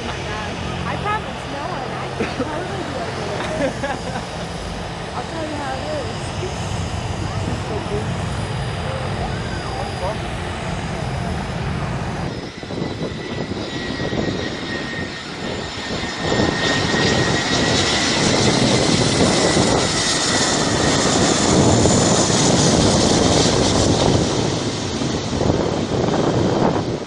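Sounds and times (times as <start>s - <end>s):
jet airliner engine whine: 0.0s - 27.0s.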